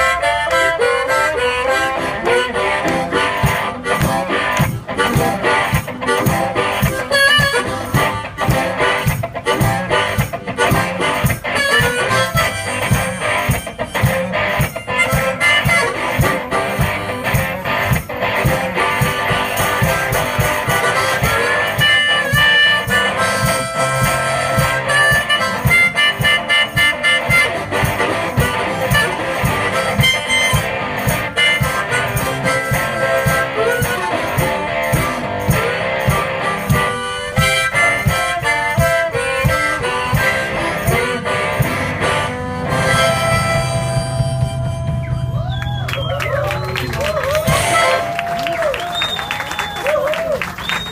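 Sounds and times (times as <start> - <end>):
strummed guitar: 0.0 - 48.7
harmonica: 0.0 - 49.2
steady drum beat: 2.2 - 48.7.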